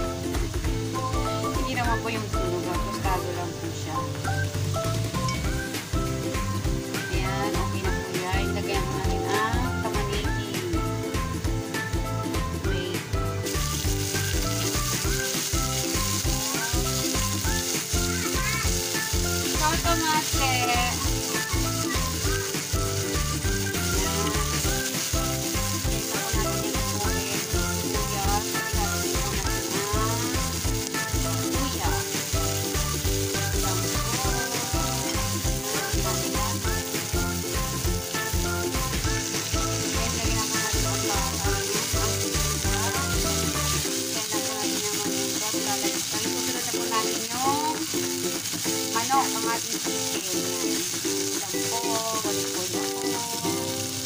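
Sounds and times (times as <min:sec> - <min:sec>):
background music with steady beat: 0:00.0 - 0:50.4
onions sizzling in oil: 0:00.0 - 0:54.0.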